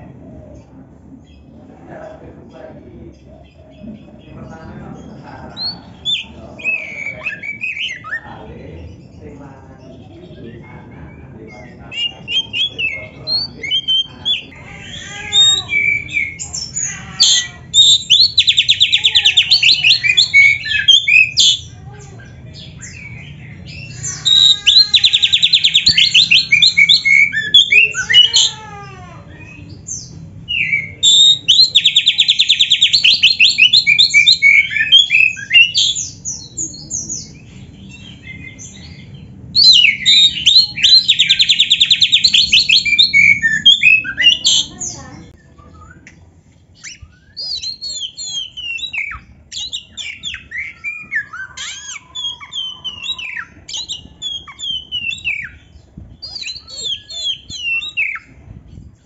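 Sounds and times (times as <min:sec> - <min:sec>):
bird singing trills: 0:00.0 - 0:59.0.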